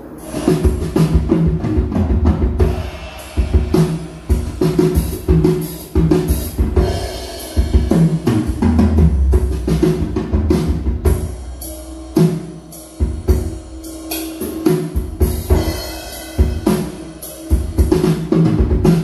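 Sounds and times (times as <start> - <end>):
cymbal hits: 0.0 - 1.6, 2.6 - 8.6, 11.1 - 19.0.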